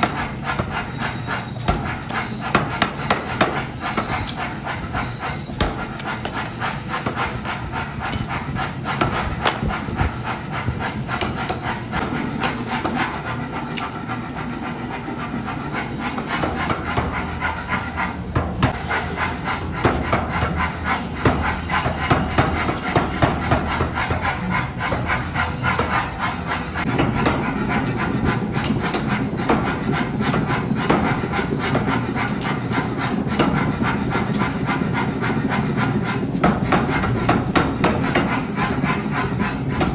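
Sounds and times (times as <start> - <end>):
continuous metal scraping: 0.0 - 39.9.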